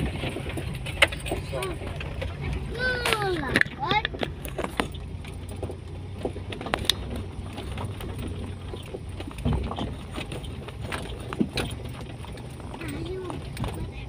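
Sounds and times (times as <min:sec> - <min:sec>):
low engine hum: 0:00.0 - 0:14.0
rattles and knocks: 0:00.0 - 0:14.0.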